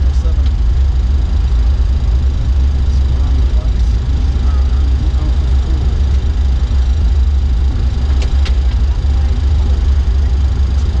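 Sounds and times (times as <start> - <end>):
deep rumble of airliner rolling: 0.0 - 11.0.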